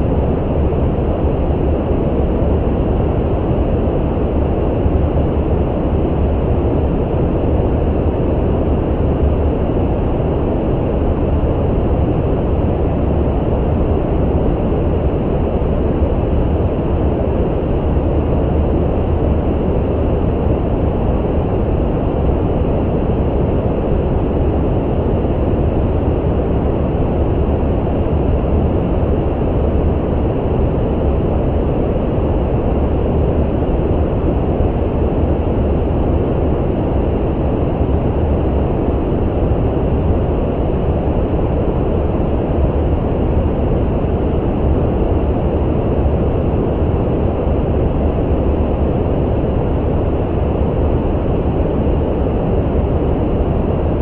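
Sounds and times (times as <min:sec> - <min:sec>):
deep rushing brown noise: 0:00.0 - 0:54.0.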